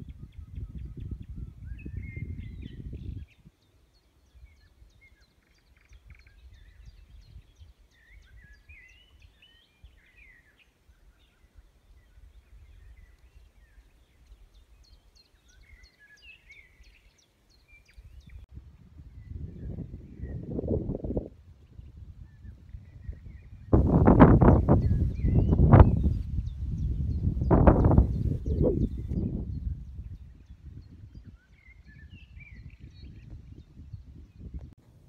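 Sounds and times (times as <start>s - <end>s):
songbirds chirping and trilling: 0.0s - 20.6s, 21.6s - 34.8s.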